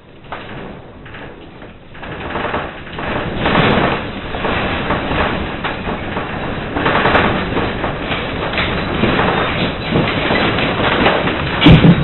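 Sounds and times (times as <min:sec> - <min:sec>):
building rumbling and rattling: 0:00.0 - 0:12.0
knocks and clatter: 0:00.0 - 0:12.0.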